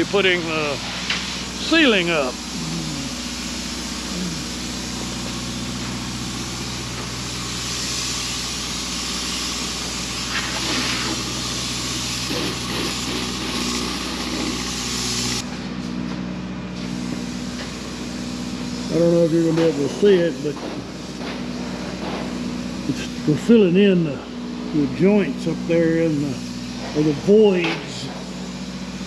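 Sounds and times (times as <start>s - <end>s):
spray foam hissing: 0.0s - 15.5s, 16.8s - 29.0s
equipment humming: 0.0s - 29.0s.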